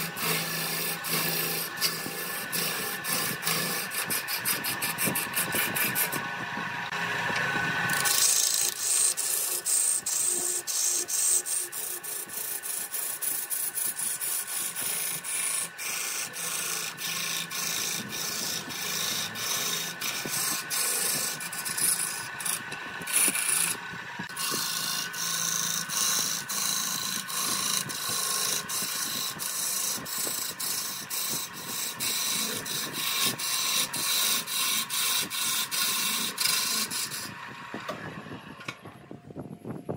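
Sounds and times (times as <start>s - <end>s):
gouge scraping wood on lathe: 0.0s - 38.0s.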